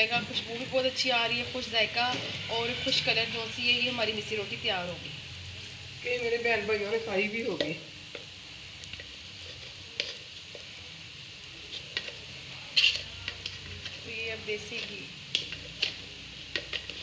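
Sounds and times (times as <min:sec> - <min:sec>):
flatbread sizzling in ghee: 0:00.0 - 0:17.0.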